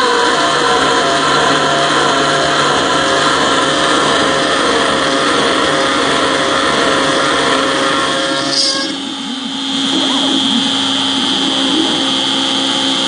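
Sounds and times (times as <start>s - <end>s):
cutter hissing in metal: 0.0s - 12.5s
router spindle whine: 0.0s - 13.0s.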